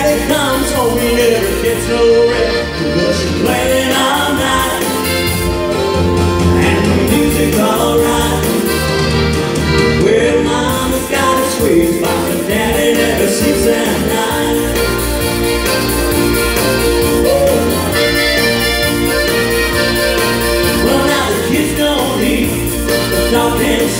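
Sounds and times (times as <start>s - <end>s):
accordion melody: 0.0s - 23.9s
keyboard backing: 0.0s - 23.9s
low bass line: 0.0s - 23.9s.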